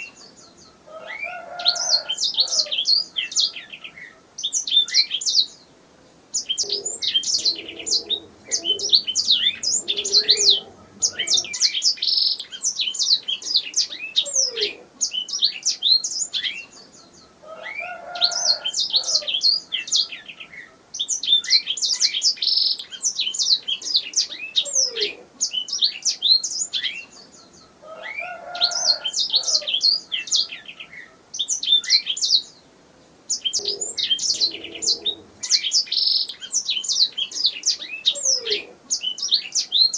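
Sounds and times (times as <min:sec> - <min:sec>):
canary singing: 0:00.0 - 0:05.6, 0:06.3 - 0:32.6, 0:33.3 - 0:39.9.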